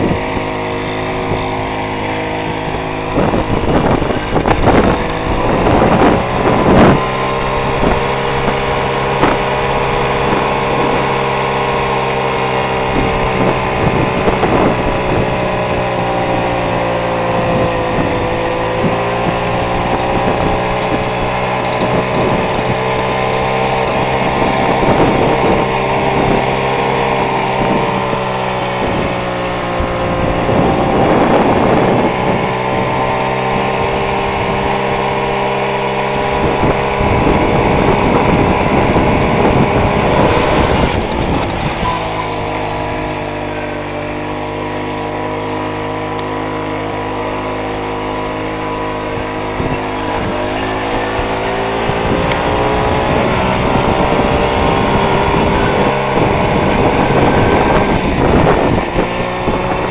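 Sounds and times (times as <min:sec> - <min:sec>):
moped engine pulling uphill: 0:00.0 - 0:59.9.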